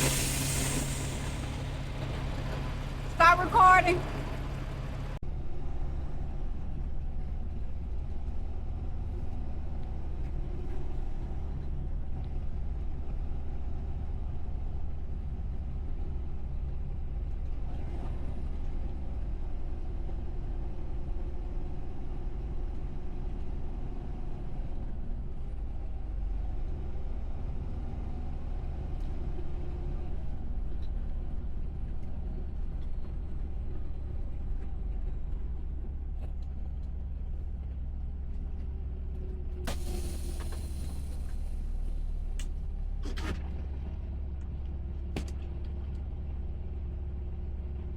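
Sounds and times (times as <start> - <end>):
heavy truck running: 0.0 - 47.9.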